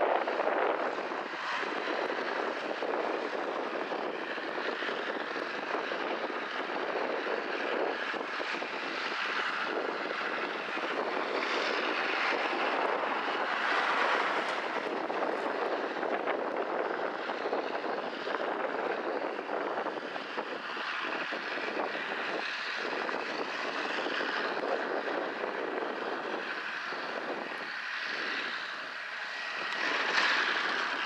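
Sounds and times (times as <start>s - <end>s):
tractor with hedge cutter droning: 0.0s - 31.0s.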